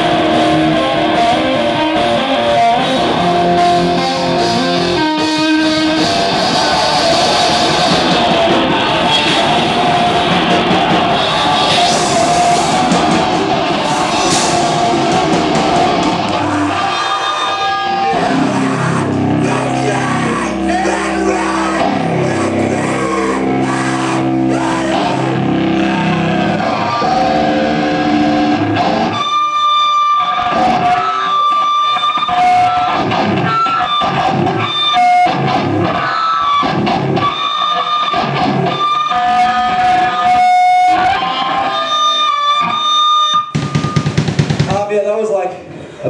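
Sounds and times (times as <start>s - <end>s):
amplified electric guitar: 0.0s - 46.0s.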